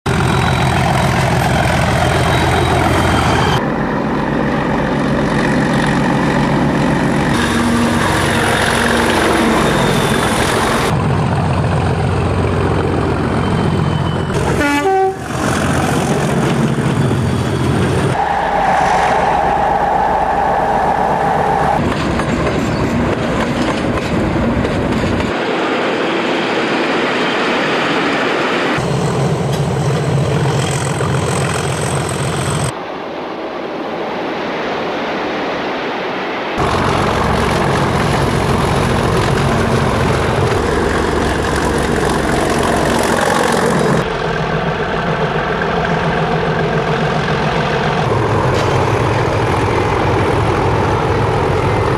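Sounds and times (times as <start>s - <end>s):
diesel locomotive running: 0.1s - 33.0s, 36.6s - 51.9s.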